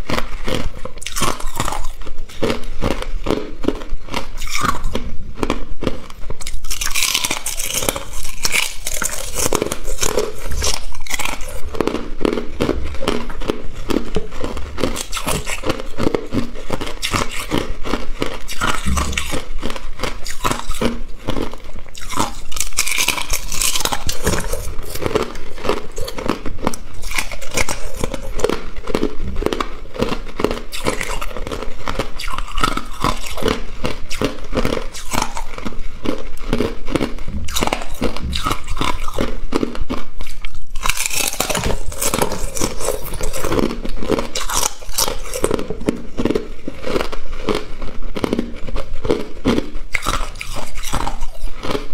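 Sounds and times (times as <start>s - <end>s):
person chewing ice crunching: 0.0s - 51.9s.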